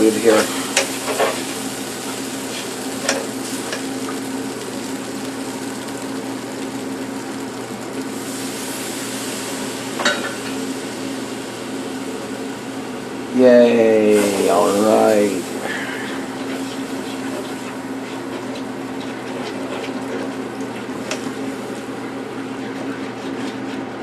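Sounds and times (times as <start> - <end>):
roux sizzling in a frying pan: 0.0 - 24.0
steady low hum: 0.0 - 24.0.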